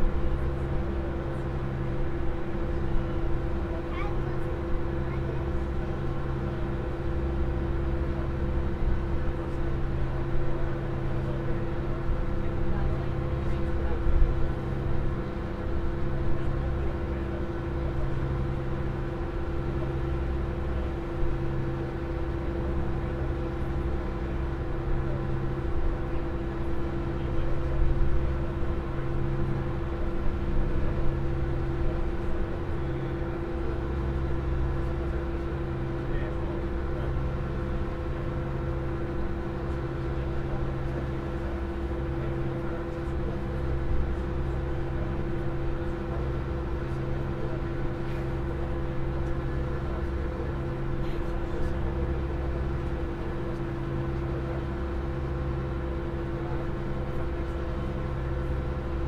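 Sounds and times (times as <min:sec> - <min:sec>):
ferry engines droning: 0:00.0 - 0:59.0.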